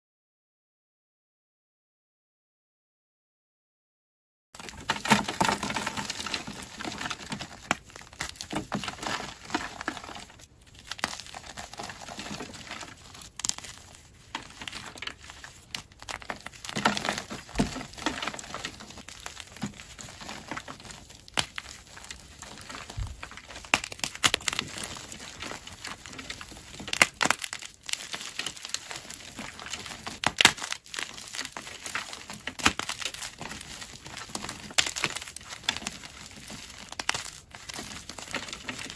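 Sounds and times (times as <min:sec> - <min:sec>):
chalk crumbling in a hand: 0:04.6 - 0:38.9.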